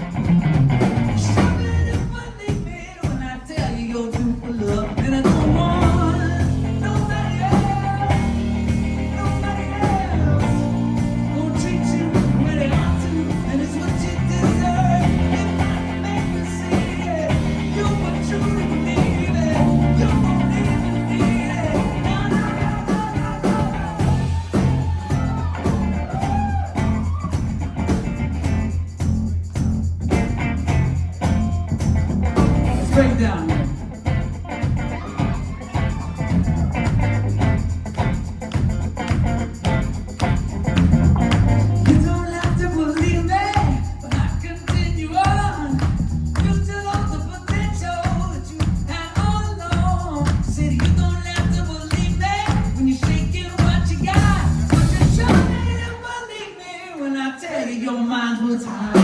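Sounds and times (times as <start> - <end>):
live pop-rock band playing: 0.0 - 55.9.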